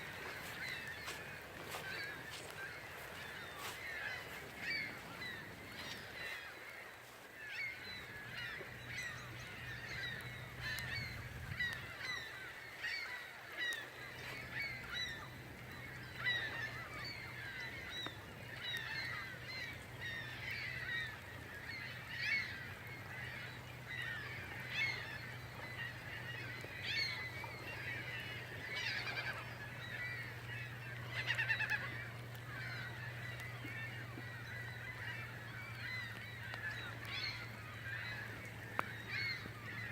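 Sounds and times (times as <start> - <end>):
flock of birds calling: 0.0 - 39.9.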